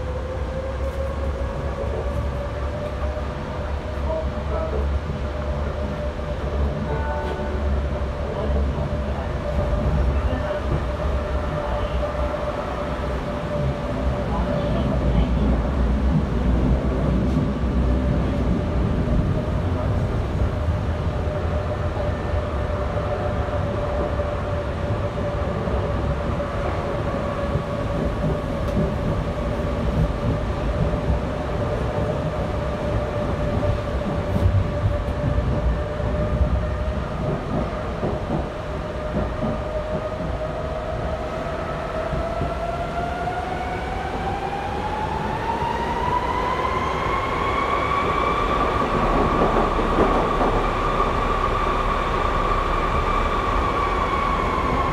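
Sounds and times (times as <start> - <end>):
train running gear rumble: 0.0 - 54.9
train whine: 0.0 - 54.9.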